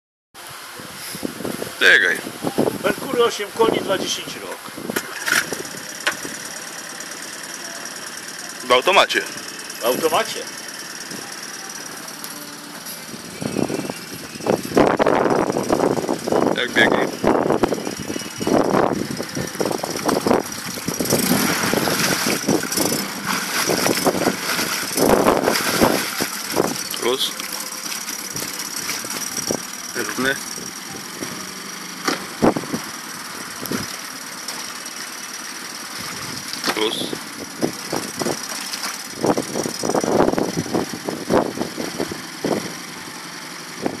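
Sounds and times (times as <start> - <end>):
outboard motor running: 0.7 - 44.0.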